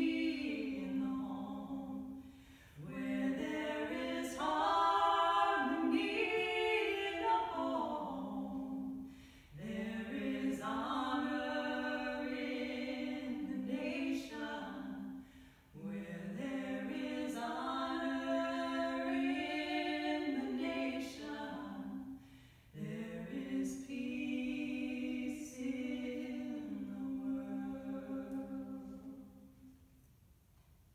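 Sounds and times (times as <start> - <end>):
women singing in harmony: 0.0 - 29.7.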